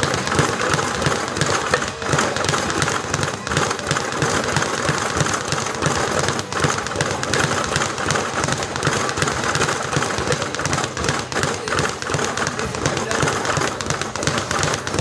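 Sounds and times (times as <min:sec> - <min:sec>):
speed bag rattling: 0:00.0 - 0:15.0.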